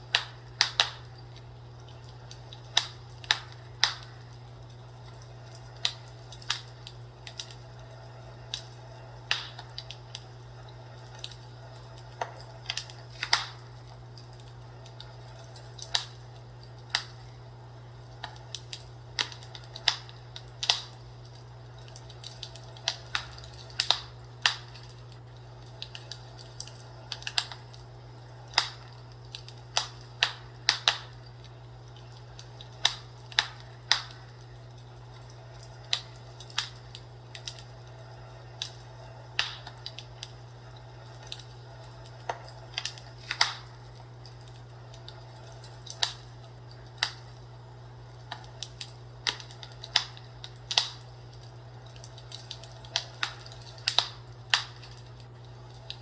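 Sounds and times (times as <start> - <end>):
steady low hum: 0.0 - 56.0
wood fire crackling: 0.0 - 56.0.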